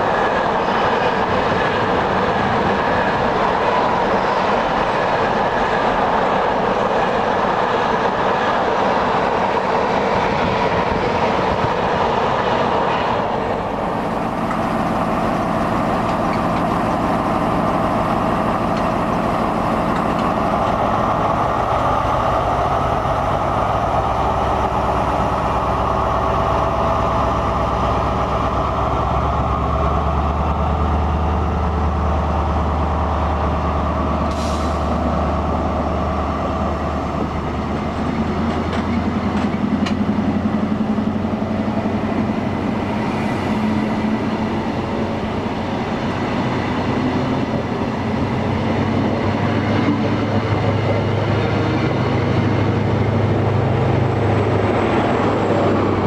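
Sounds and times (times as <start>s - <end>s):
freight train wheels rumbling: 0.0s - 56.0s
passenger train passing: 0.0s - 56.0s
deep diesel engine hum: 8.6s - 56.0s.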